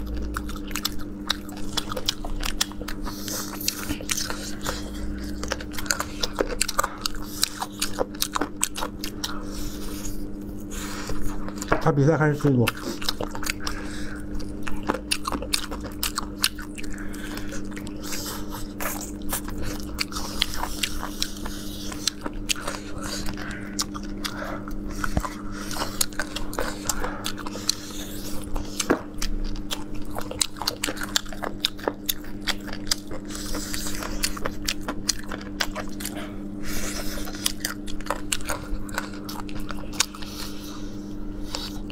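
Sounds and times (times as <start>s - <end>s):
crunching and chewing chicken bones: 0.0s - 41.9s
steady low hum: 0.0s - 41.9s.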